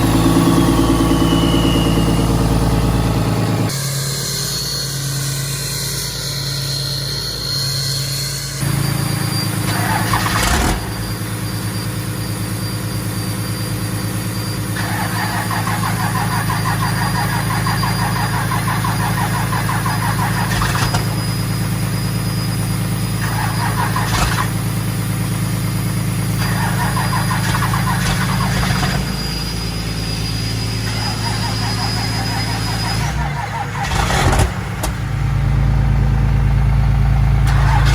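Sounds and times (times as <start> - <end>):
truck engine running: 0.0 - 5.2, 8.4 - 37.9
rough squeal: 0.0 - 35.4, 37.4 - 37.9.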